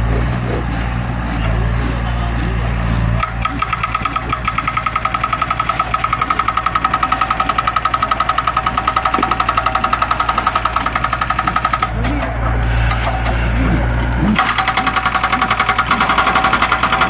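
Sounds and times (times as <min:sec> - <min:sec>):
excavator engine rumble: 0:00.0 - 0:14.4.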